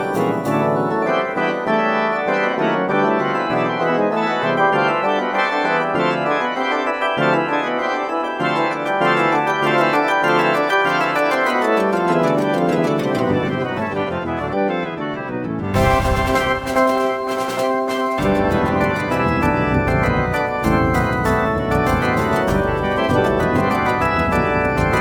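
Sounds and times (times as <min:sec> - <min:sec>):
keyboard chords: 0:00.0 - 0:25.0.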